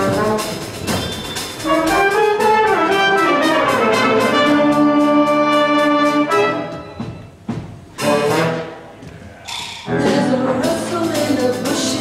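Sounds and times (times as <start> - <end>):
brass band dance music: 0.0 - 12.0
steady drum beat: 0.0 - 12.0.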